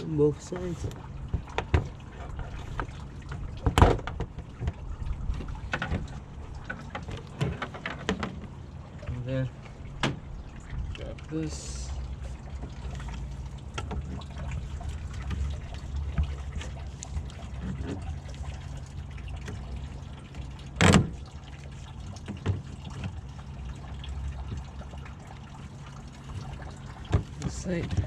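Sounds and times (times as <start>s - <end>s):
liquid trickling into a pan: 0.0s - 28.0s.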